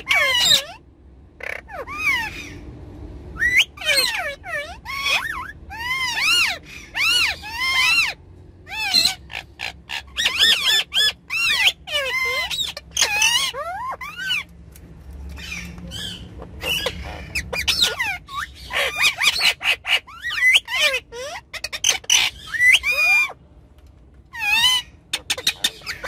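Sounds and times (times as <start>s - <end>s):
parrots squawking: 0.0s - 2.7s, 3.3s - 14.6s, 15.3s - 23.4s, 24.3s - 26.0s.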